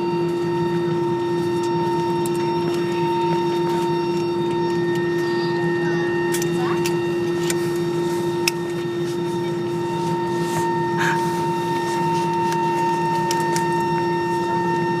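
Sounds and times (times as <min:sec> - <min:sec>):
airliner cabin hum with whining tones: 0:00.0 - 0:15.0.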